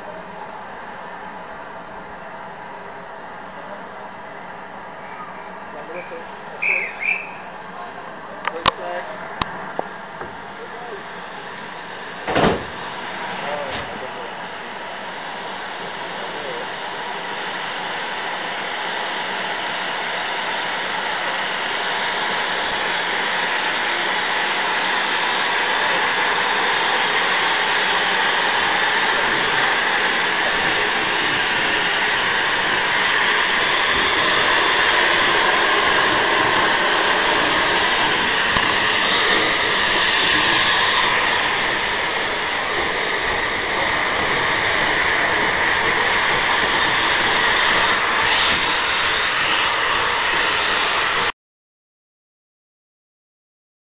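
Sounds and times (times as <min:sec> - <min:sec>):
steam hissing from locomotive: 0:02.6 - 0:51.3.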